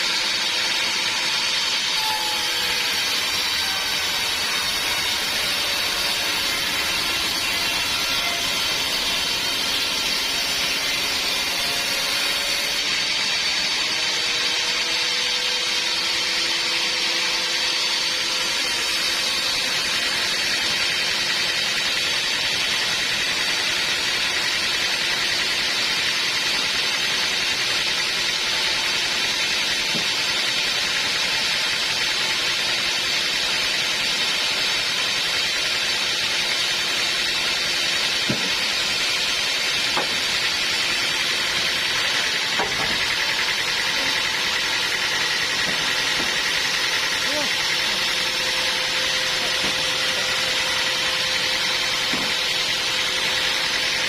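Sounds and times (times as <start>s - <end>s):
sawmill machinery hissing: 0.0s - 54.0s.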